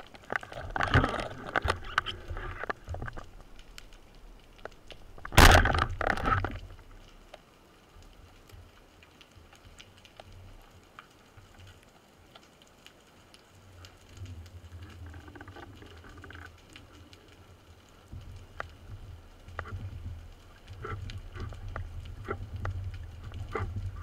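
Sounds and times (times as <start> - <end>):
low rumble of moving water: 0.0 - 24.0
underwater clicks and crackles: 0.0 - 24.0.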